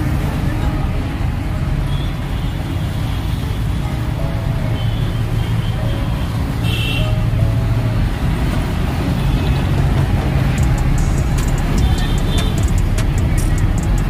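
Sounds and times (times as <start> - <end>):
road traffic rumbling: 0.0 - 14.0.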